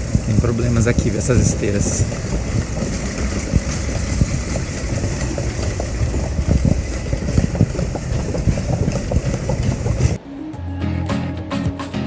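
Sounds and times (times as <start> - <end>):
baggage carousel rumbling: 0.0 - 10.2.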